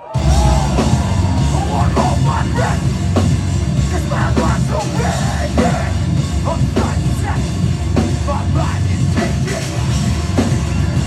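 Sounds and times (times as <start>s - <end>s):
heavy metal band playing live: 0.0s - 11.0s.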